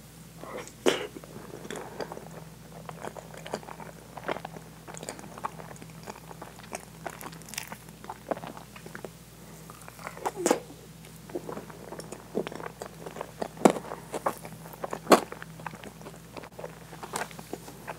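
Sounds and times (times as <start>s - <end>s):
wet chewing and mouth sounds: 0.5s - 17.9s.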